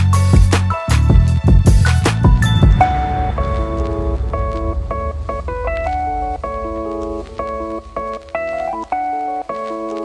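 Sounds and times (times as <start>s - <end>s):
electronic keyboard melody: 0.0s - 10.0s.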